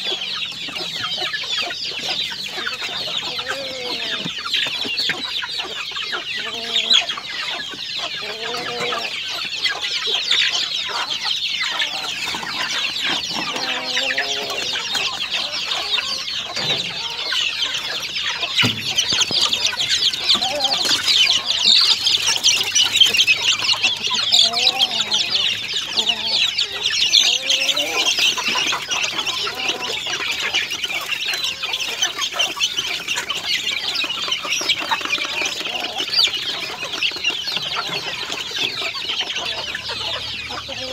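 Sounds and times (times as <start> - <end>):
chickens clucking: 0.0 - 40.9
chicks peeping: 0.0 - 40.9.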